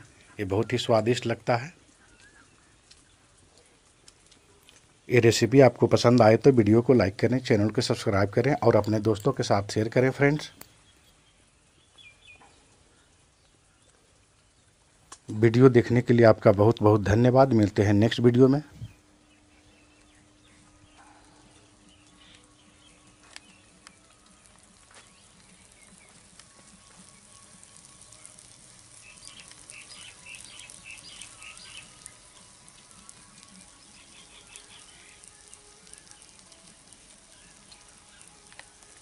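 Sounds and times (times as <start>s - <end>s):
fish frying in oil: 0.0s - 18.6s, 19.2s - 39.0s.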